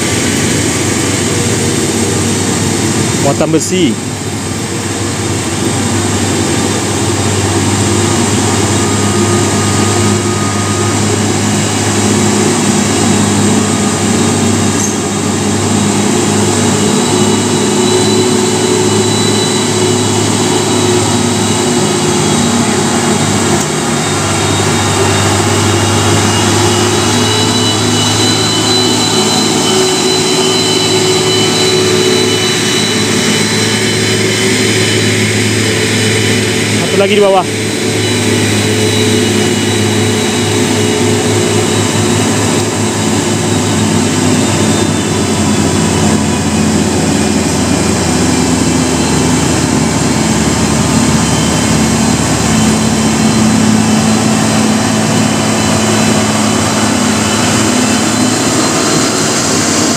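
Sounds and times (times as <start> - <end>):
heavy diesel truck engines labouring: 0.0 - 59.9
thin high whine: 0.0 - 59.9.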